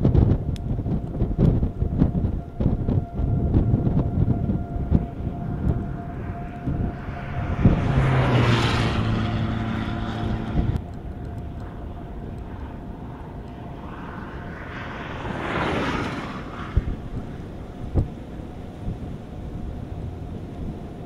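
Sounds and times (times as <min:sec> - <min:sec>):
deep engine hum: 0:00.0 - 0:21.0
vehicle tyre noise: 0:00.0 - 0:21.0.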